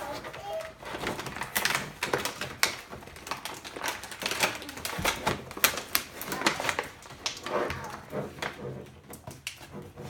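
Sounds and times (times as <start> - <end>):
plastic packaging crackling: 0.0 - 10.0.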